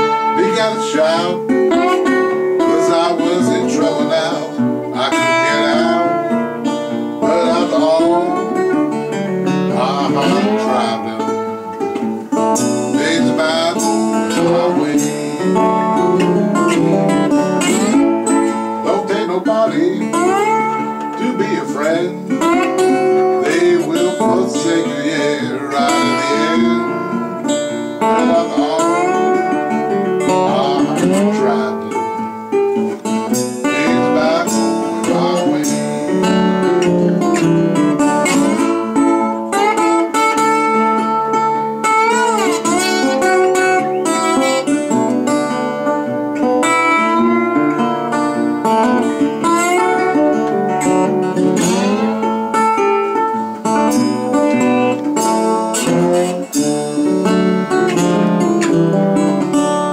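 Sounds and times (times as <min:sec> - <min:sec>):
acoustic guitar strumming: 0:00.0 - 0:59.9
sliding electric guitar lead: 0:00.0 - 0:59.9.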